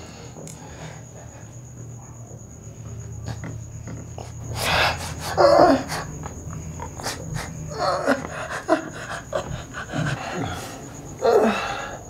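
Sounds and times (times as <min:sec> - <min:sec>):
strained breaths: 0:00.0 - 0:01.8, 0:03.2 - 0:12.0.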